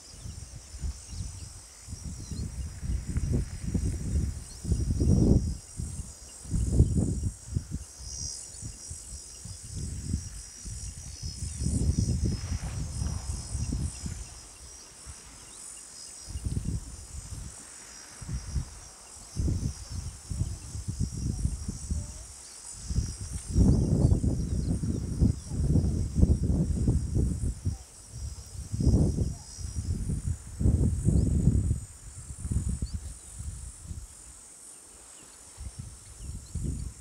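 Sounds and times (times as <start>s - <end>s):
high-pitched insect chorus: 0.0s - 37.0s.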